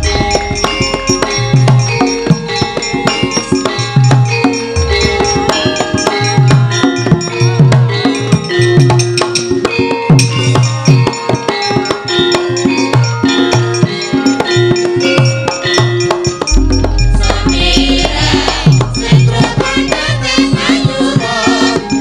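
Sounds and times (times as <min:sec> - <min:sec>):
hand drum pattern: 0:00.0 - 0:22.0
ringing metallophone tones: 0:00.0 - 0:22.0.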